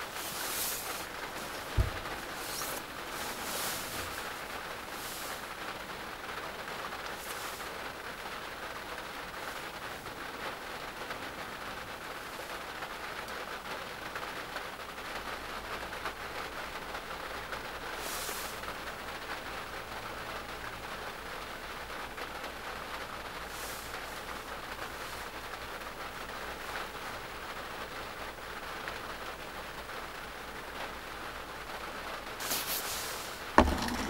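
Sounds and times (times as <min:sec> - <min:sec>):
rain pattering on a van roof: 0:00.0 - 0:34.0.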